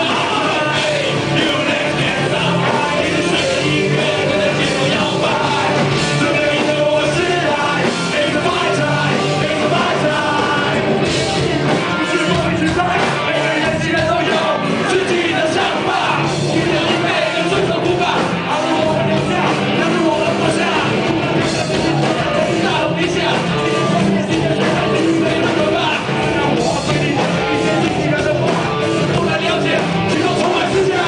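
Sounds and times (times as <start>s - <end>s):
audience singing and shouting: 0.0s - 31.0s
lead vocal singing: 0.0s - 31.0s
punk rock band playing: 0.0s - 31.0s.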